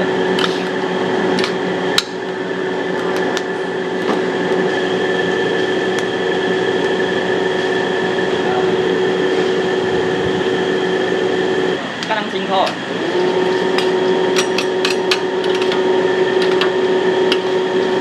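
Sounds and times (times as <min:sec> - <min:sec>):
extractor hum: 0:00.0 - 0:18.0
gas burner roaring: 0:00.0 - 0:18.0.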